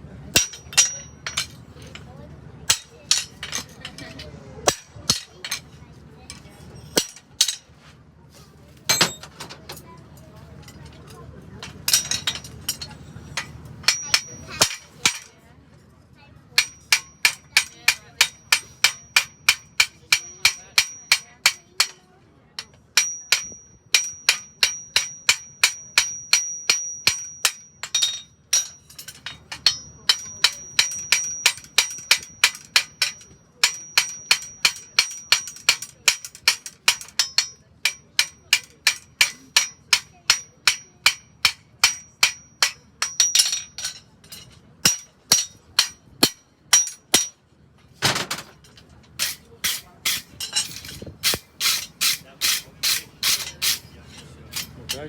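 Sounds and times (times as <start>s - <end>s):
hammer striking metal on anvil: 0.4s - 2.0s, 2.7s - 4.0s, 4.6s - 5.7s, 6.3s - 7.7s, 8.9s - 9.3s, 11.9s - 15.4s, 16.6s - 47.4s, 49.2s - 53.9s.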